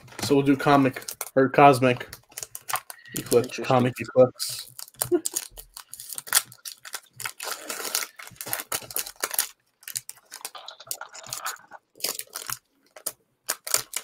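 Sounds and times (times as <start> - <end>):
foil wrapper crinkling and tearing: 0.0 - 14.0.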